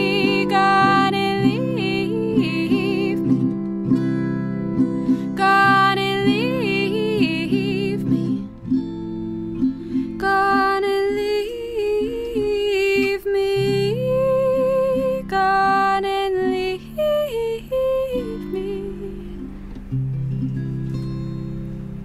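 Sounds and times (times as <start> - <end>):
woman singing wordless melody: 0.0 - 9.0, 9.8 - 19.8
strummed acoustic guitar: 0.0 - 22.0.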